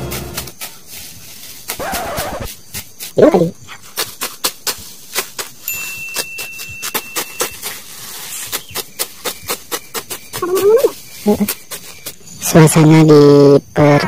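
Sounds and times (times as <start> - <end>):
sickle snipping grass: 0.0 - 3.2, 3.8 - 12.2.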